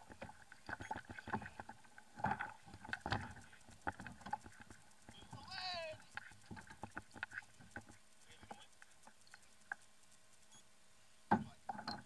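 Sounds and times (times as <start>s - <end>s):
light clicks and taps: 0.0s - 10.6s.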